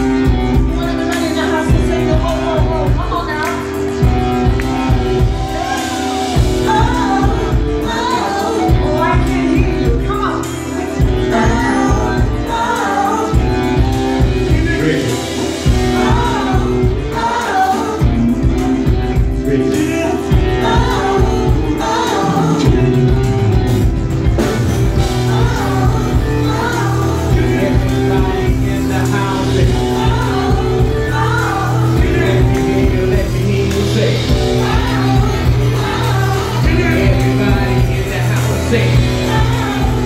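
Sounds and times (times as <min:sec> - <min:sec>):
live band playing: 0:00.0 - 0:40.0
person singing: 0:00.0 - 0:40.0.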